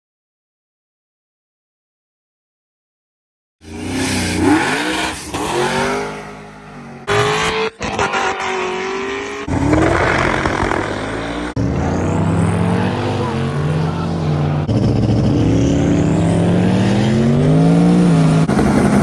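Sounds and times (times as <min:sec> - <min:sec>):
car engines revving: 0:03.6 - 0:19.0.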